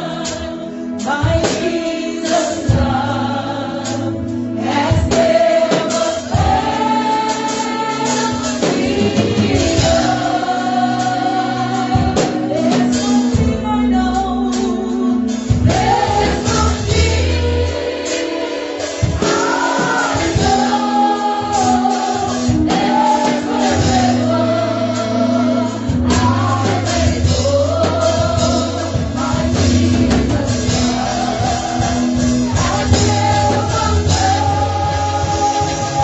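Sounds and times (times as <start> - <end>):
keyboard: 0.0 - 36.0
voices singing gospel: 0.0 - 36.0
held bass notes: 2.6 - 36.0.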